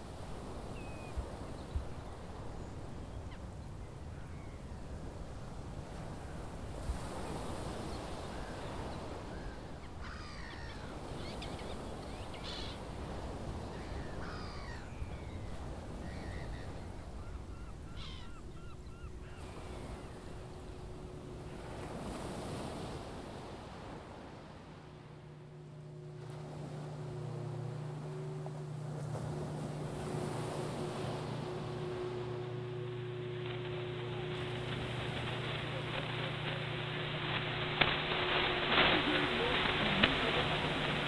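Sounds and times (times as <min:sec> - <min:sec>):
surf: 0:00.0 - 0:41.0
wind: 0:00.0 - 0:41.0
gulls calling: 0:06.0 - 0:41.0.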